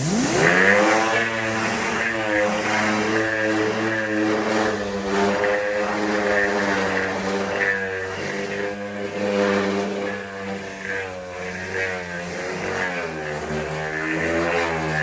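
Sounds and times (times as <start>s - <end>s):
motor-driven tool humming: 0.0s - 15.0s.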